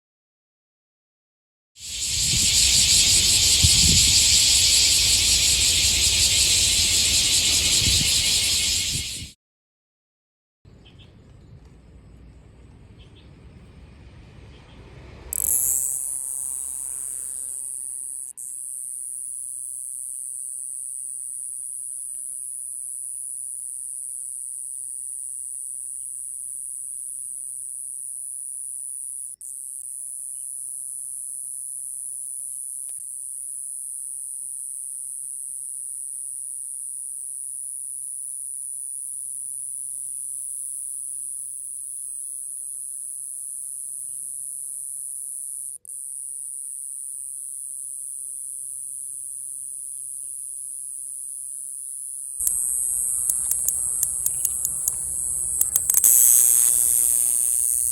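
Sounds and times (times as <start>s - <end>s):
cicada buzzing: 1.8s - 9.4s, 15.3s - 25.8s, 26.6s - 57.9s.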